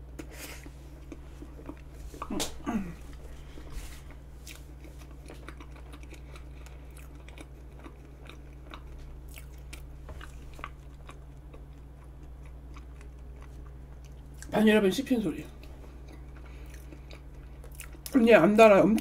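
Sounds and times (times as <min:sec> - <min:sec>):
chewing soft cake: 0:00.0 - 0:14.6, 0:15.4 - 0:19.0.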